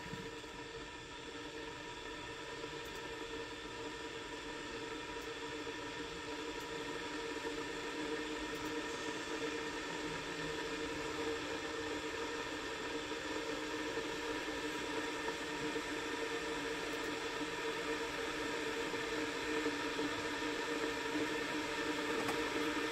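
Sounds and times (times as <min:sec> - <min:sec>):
faint hum: 0:00.0 - 0:22.9
kettle heating water hiss: 0:00.0 - 0:22.9.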